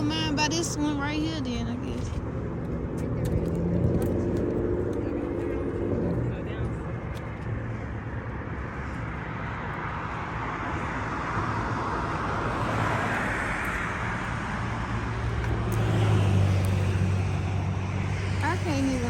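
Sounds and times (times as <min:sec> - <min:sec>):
low engine rumble: 0:00.0 - 0:19.0
roar of highway traffic: 0:00.0 - 0:19.0.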